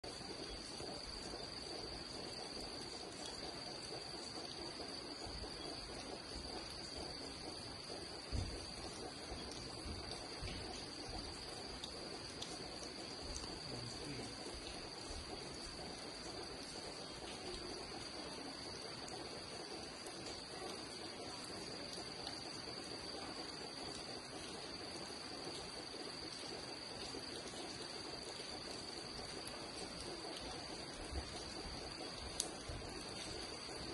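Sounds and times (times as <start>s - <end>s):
insects chirping: 0.0s - 33.9s
soft hiss: 0.1s - 33.9s.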